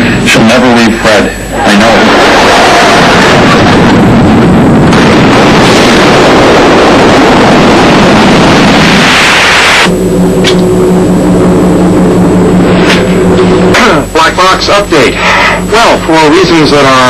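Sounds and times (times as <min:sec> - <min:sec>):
jet-like rushing roar: 0:00.0 - 0:17.0
low electronic hum: 0:00.0 - 0:17.0.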